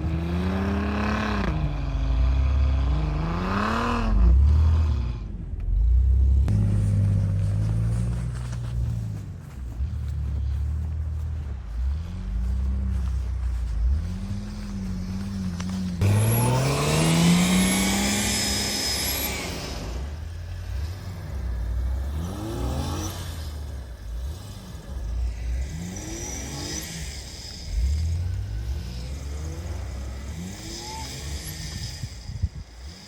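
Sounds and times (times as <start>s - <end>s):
engine revving: 0.0s - 33.0s.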